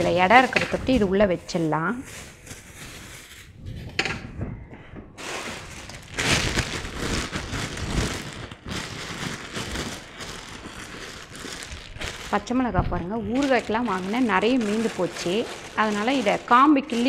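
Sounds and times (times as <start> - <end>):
plastic bags rustling: 0.0 - 3.8, 5.2 - 17.0.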